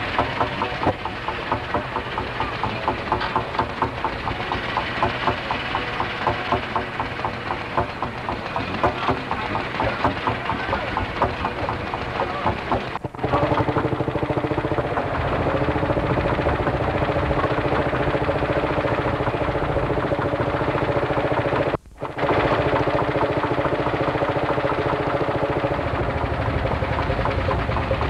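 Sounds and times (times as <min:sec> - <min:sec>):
tractor engine knocking: 0:00.0 - 0:28.0.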